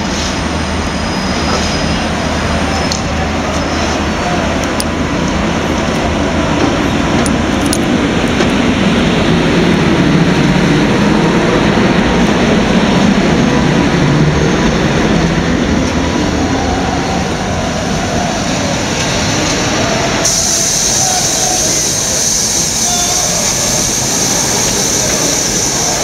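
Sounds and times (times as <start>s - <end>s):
train wheels rolling on rail: 0.0s - 26.0s.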